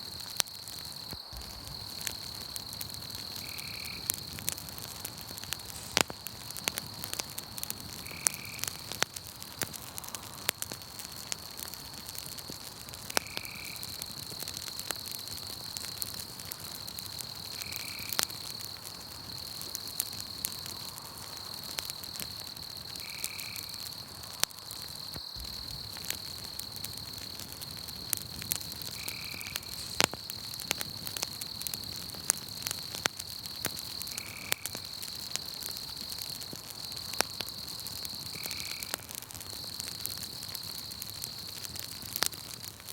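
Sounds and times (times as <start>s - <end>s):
campfire crackling and popping: 0.0s - 42.9s
crickets trilling: 0.0s - 42.9s.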